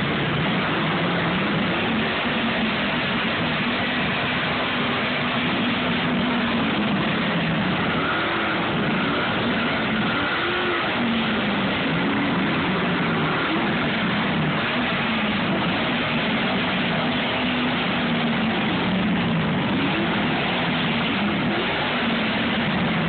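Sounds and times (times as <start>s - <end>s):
steady rushing noise: 0.0s - 23.0s
truck engine revving: 0.0s - 23.0s.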